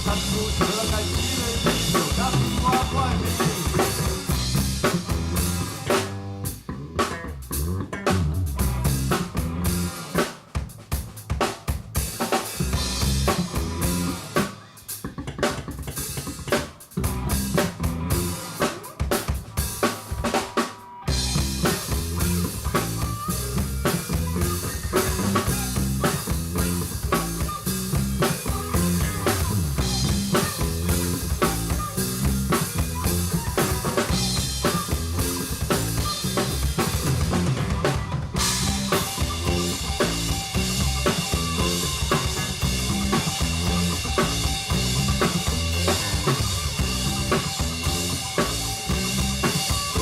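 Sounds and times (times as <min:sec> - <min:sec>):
band playing live: 0:00.0 - 0:50.0
drum kit beat: 0:00.0 - 0:50.0.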